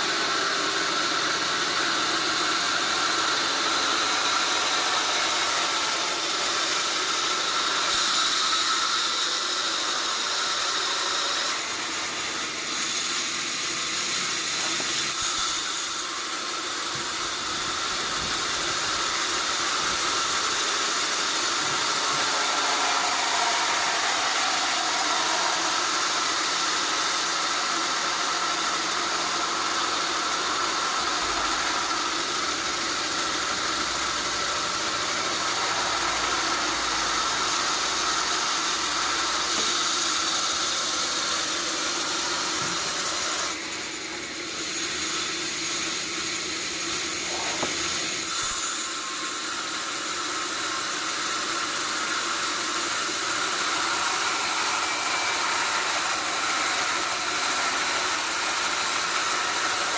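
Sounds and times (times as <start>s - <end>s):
high mechanical whine: 0.0s - 59.9s
sawmill machinery hiss: 0.0s - 59.9s.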